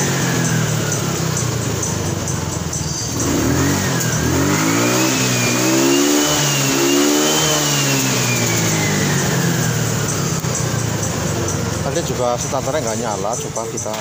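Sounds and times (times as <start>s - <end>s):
scooter engine revving: 0.0s - 14.0s.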